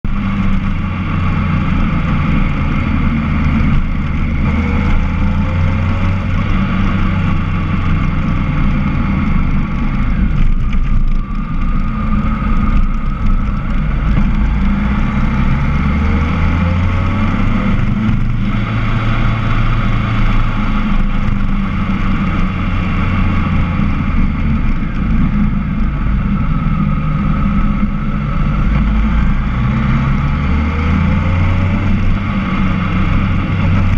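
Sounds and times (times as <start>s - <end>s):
motorcycle engine running: 0.0s - 33.9s
wind noise on microphone: 0.0s - 33.9s.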